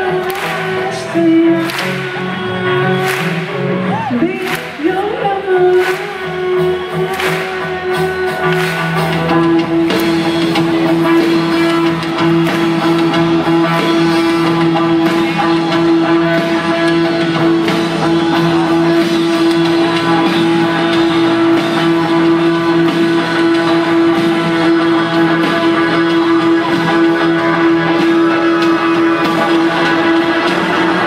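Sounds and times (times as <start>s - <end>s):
electric guitar: 0.0s - 31.0s
rock band playing live: 0.0s - 31.0s.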